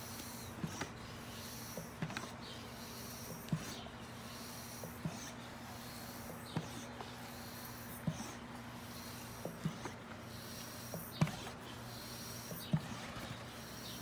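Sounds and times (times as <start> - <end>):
pump air hiss: 0.0 - 14.0
pump click: 0.1 - 14.0.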